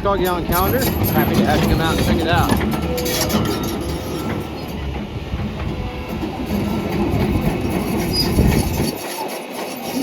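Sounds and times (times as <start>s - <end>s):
excavator running: 0.0s - 10.0s
rattling clatter: 0.0s - 10.0s.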